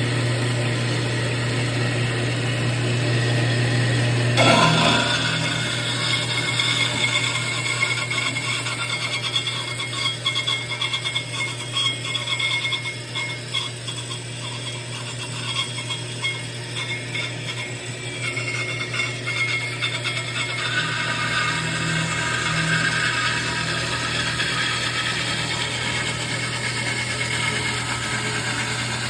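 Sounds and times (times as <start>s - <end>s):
machine humming: 0.0s - 9.9s, 13.8s - 29.0s
high-pitched machine noise: 3.1s - 29.0s.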